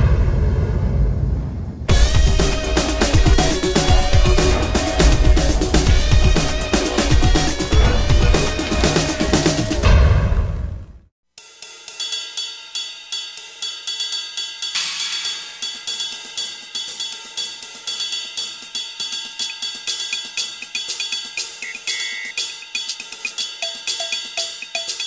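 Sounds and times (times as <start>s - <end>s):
drum-kit beat: 1.9s - 9.9s, 11.4s - 25.0s.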